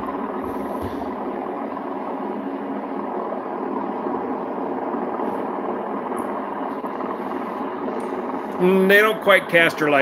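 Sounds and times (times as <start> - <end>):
jet engines taxiing hum: 0.0 - 10.0.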